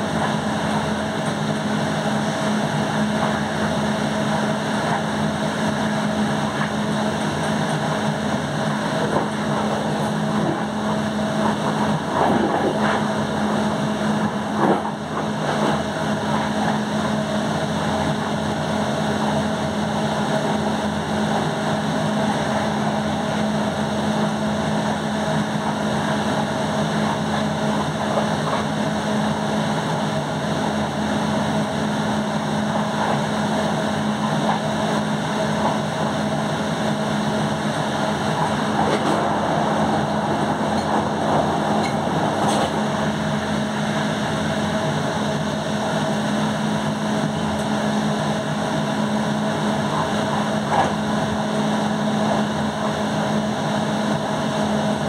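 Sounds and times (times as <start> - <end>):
constant low hum: 0.0 - 55.0
train wheels rolling on rails: 0.0 - 55.0.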